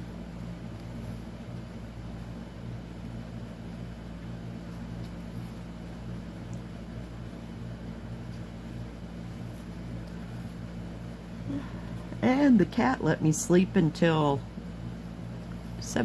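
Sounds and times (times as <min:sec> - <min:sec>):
machine humming: 0:01.5 - 0:16.0.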